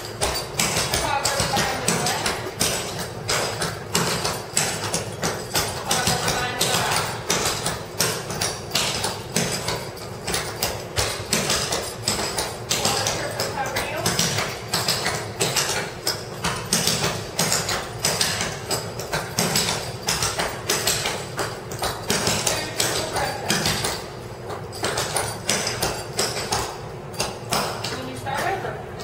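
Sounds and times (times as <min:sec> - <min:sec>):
tap shoes on hardwood floor: 0:00.0 - 0:29.0.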